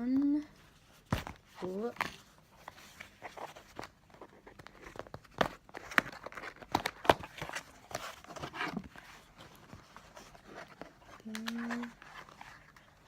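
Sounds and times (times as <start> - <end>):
packaging rustling: 1.0 - 13.0.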